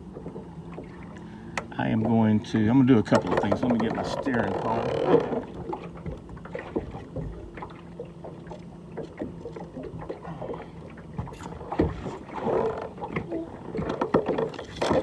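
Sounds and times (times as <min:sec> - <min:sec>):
knocks and clatter in boat: 0:00.0 - 0:15.0.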